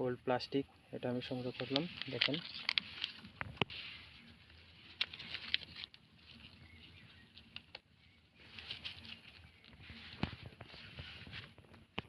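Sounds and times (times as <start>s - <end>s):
plastic rustling and crackling: 1.3s - 7.8s, 8.4s - 12.0s.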